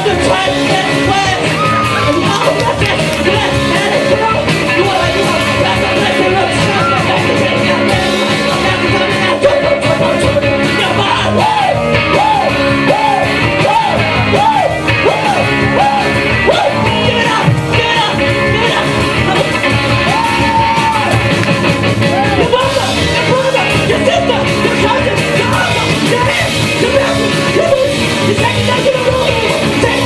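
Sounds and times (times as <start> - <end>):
singer yelling into microphone: 0.0 - 21.2, 22.0 - 30.0
electric guitar: 0.0 - 30.0.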